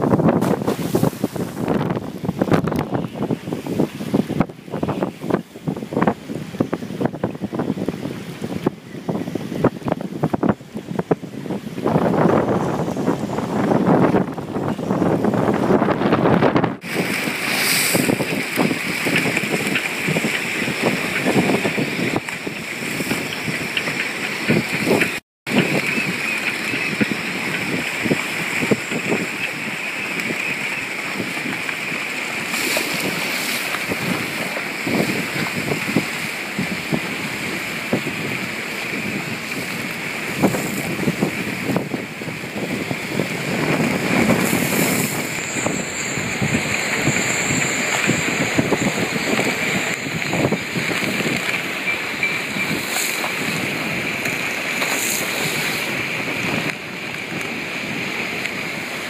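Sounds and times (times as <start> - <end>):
water slapping against docks: 0.0 - 8.8, 11.8 - 59.0
wind buffeting microphone: 0.0 - 59.0.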